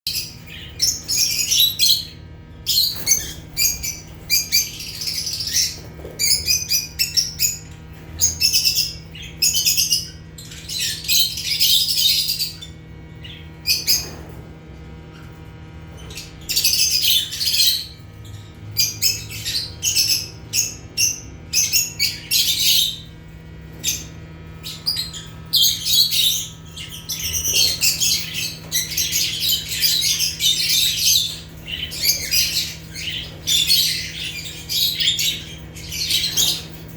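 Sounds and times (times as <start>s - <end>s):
birds chirping and squawking: 0.1s - 36.9s.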